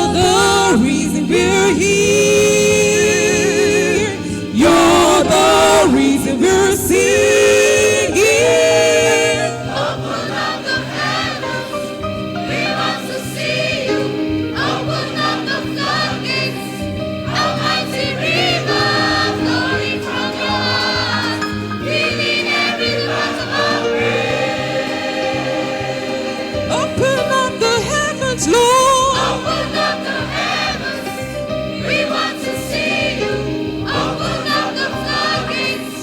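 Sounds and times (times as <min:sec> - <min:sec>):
choir singing gospel song: 0:00.0 - 0:36.0
low accompaniment: 0:00.0 - 0:36.0.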